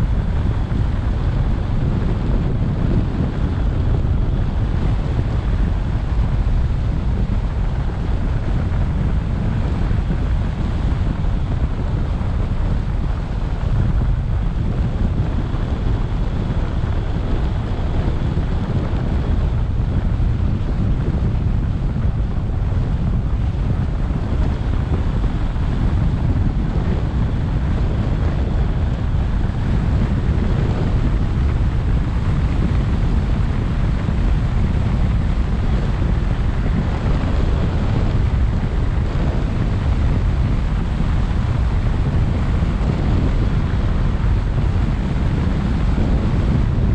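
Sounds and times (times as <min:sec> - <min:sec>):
tyre road noise: 0:00.0 - 0:46.9
wind on microphone: 0:00.0 - 0:46.9.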